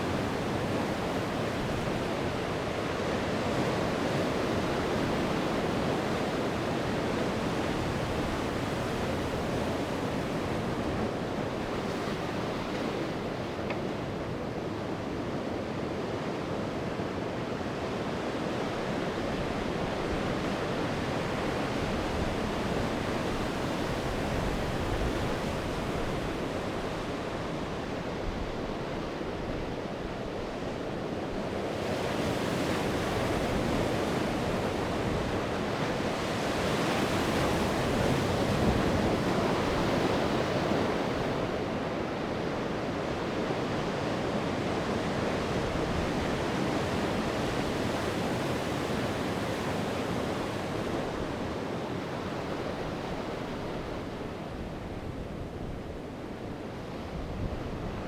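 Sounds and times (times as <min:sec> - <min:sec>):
sea waves washing on shore: 0:00.0 - 0:58.0
wind: 0:00.0 - 0:58.0.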